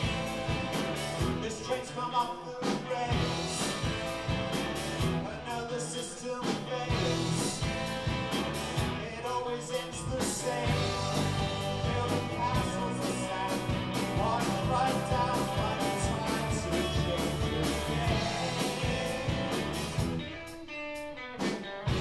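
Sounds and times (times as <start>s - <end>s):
drums keeping steady beat: 0.0s - 22.0s
rock band playing live: 0.0s - 22.0s.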